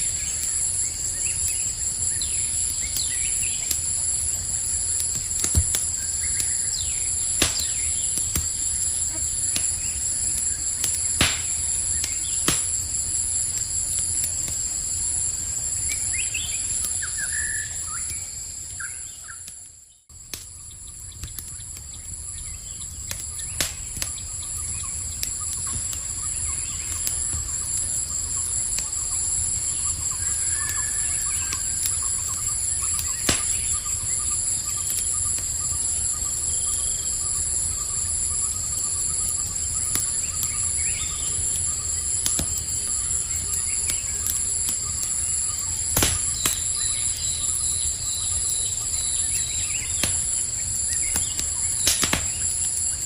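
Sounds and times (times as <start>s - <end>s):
campfire crackling and popping: 0.0s - 53.0s
night insects chorus: 0.0s - 53.0s.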